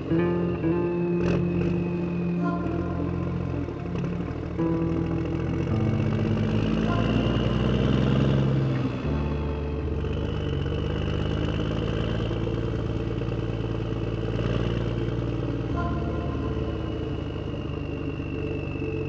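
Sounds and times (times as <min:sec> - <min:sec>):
motorbike engine running: 0:00.0 - 0:19.0
road and wind noise: 0:00.0 - 0:19.0.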